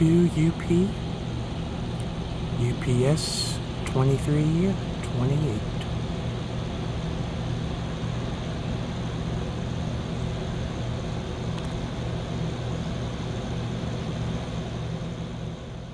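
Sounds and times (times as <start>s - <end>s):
low engine drone: 0.0s - 15.9s.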